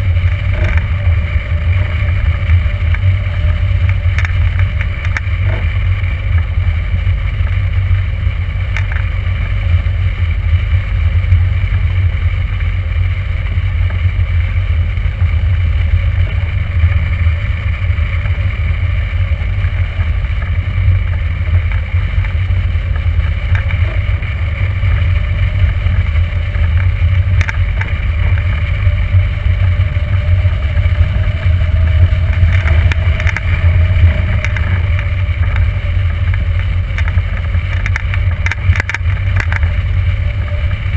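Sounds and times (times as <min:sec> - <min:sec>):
wind noise rumble: 0:00.0 - 0:40.9.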